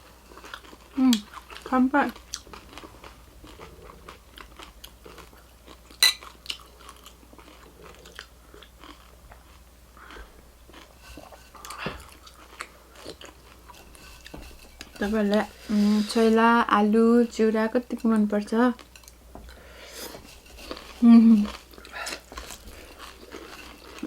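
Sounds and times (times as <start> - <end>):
chewing crunchy food: 0.2 - 16.3, 18.8 - 24.0.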